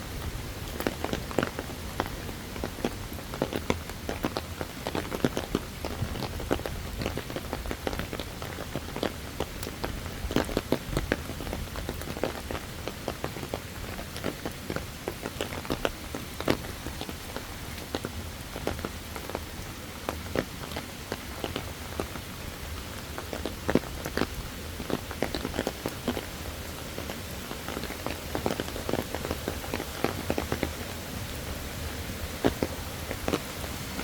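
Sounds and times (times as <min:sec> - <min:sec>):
low rain hiss: 0:00.0 - 0:34.0
raindrop ticks: 0:00.1 - 0:34.0.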